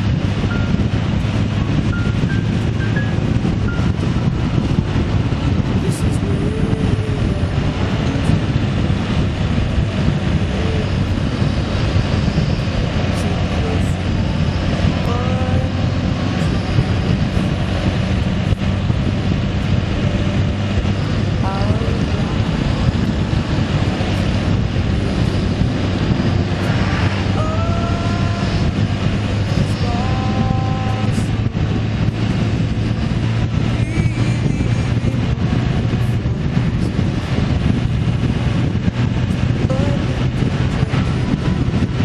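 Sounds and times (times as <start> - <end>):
road and wind noise: 0.0 - 42.0
vehicle engine drone: 0.0 - 42.0.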